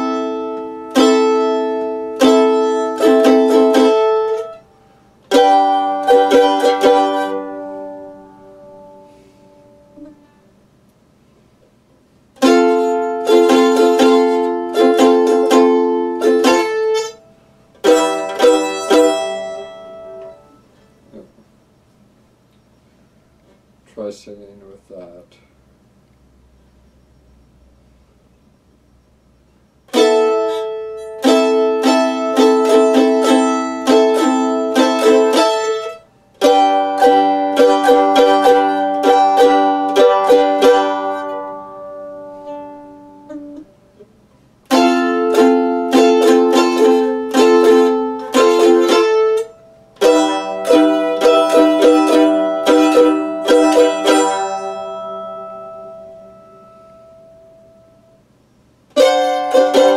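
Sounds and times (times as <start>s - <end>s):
mandolin playing chords: 0.0s - 10.7s, 11.4s - 21.4s, 29.5s - 59.9s.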